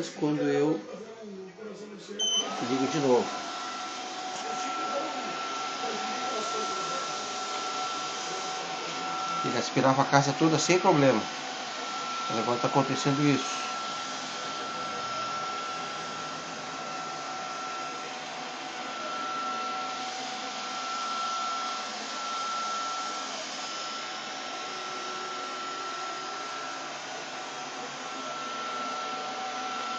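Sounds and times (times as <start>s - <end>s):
vacuum cleaner motor whining: 2.2s - 29.9s.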